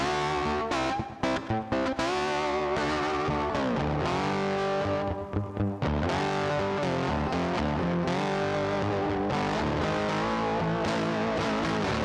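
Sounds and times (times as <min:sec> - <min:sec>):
distorted electric guitar bent notes: 0:00.0 - 0:12.0.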